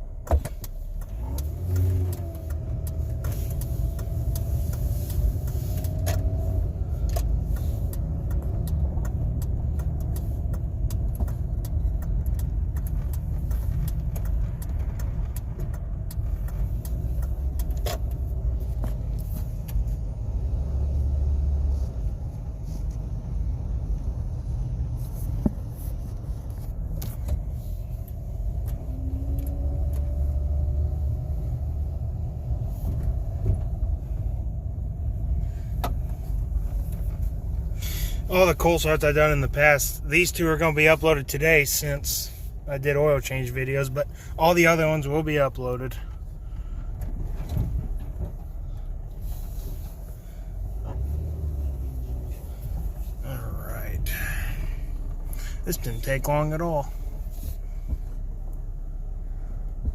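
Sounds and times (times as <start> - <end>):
car engine rumbling: 0.0 - 59.9
light clicks and rattles: 0.2 - 58.8.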